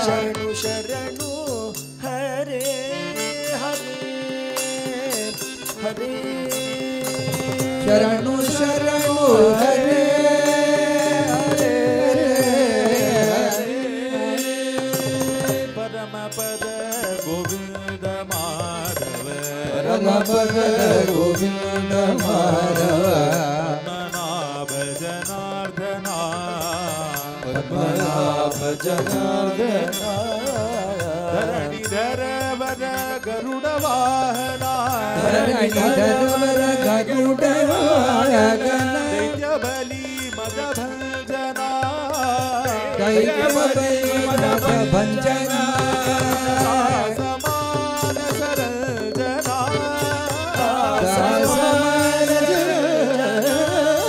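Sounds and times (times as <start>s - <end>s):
men singing devotional song: 0.0s - 54.0s.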